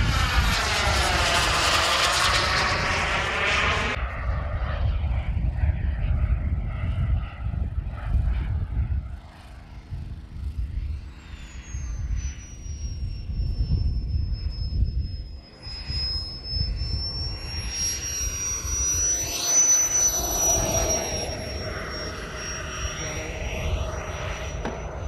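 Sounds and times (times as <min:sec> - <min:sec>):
jet turbine whining: 0:00.0 - 0:25.0.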